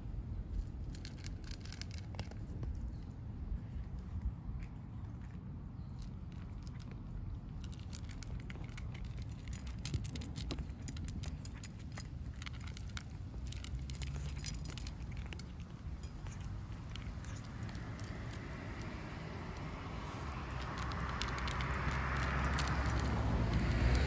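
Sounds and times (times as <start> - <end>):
cats crunching dry food: 0.0 - 24.0.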